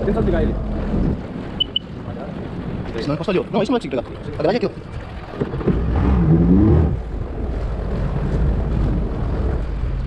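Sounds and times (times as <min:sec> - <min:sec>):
jet ski engine rumbling: 0:00.0 - 0:10.0
water noise: 0:00.0 - 0:10.0
wind noise: 0:00.0 - 0:10.0.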